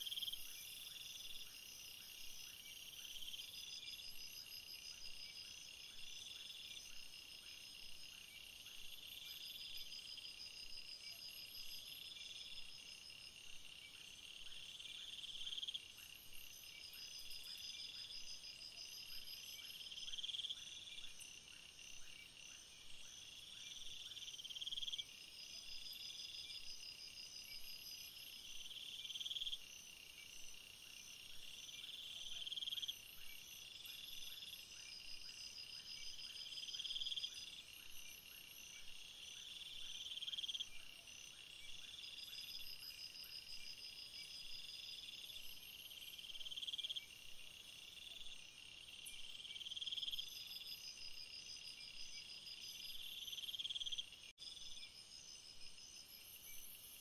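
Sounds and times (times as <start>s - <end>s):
insect pulsed trill: 0.0s - 57.0s.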